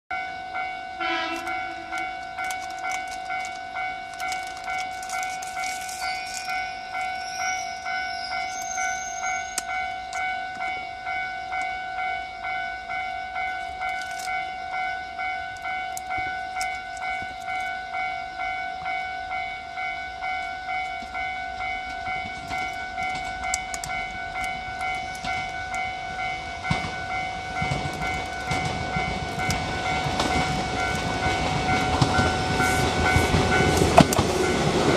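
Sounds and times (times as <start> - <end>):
level crossing bell ringing: 0.1 - 34.9
electric train running: 0.2 - 34.9.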